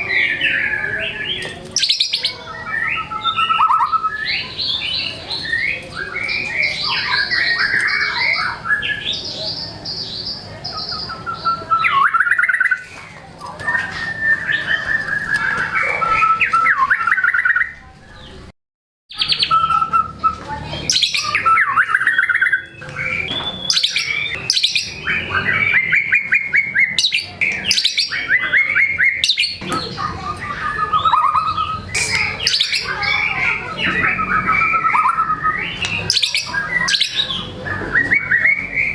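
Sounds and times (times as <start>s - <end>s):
bird singing whistles and trills: 0.0s - 12.9s, 13.6s - 18.4s, 19.1s - 38.9s.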